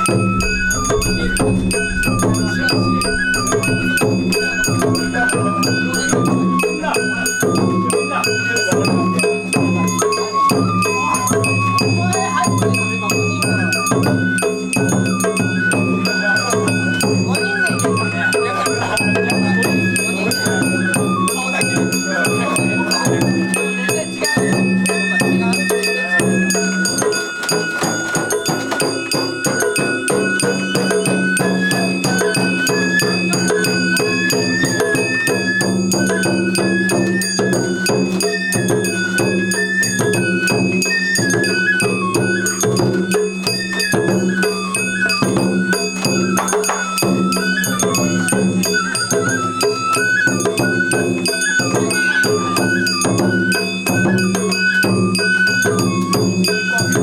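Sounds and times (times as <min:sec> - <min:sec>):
bamboo flute melody: 0:00.0 - 0:57.0
drums: 0:00.0 - 0:57.0
jangling metal hand gongs: 0:00.0 - 0:57.0.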